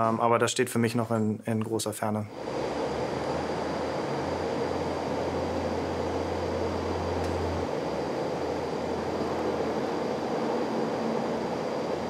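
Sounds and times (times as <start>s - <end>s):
thin high whine: 2.0s - 12.0s
jet machinery rushing noise: 2.3s - 12.0s
low hum: 2.3s - 12.0s.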